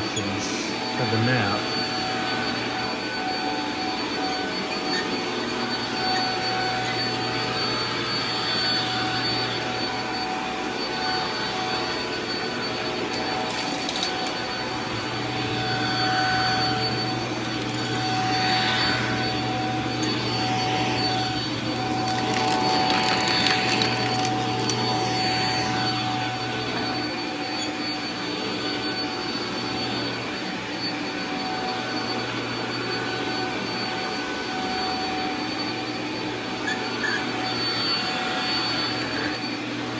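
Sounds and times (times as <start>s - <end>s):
vacuum cleaner on a rug: 0.0s - 39.9s.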